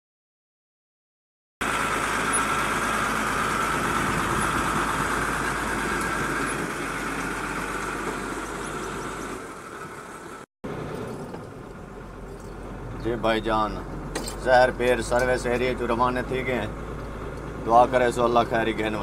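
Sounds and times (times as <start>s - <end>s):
diesel truck engine passing: 1.6s - 19.0s
engine heard from inside cab: 1.6s - 19.0s.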